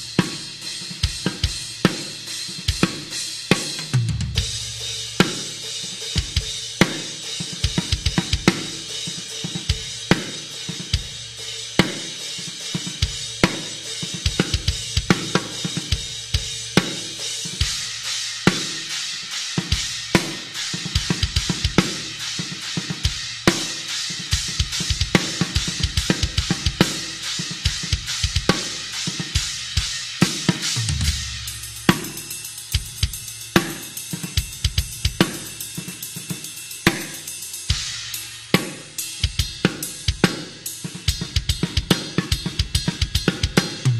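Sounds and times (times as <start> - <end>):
cymbal wash: 0.0 - 43.9.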